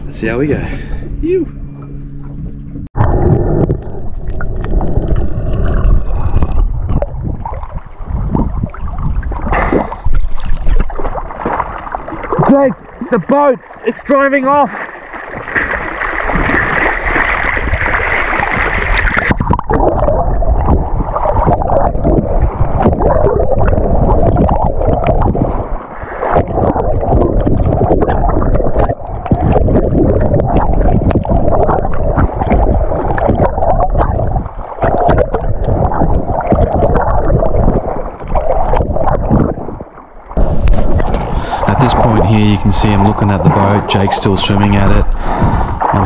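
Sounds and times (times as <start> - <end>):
water sloshing and splashing: 0.0 - 46.0.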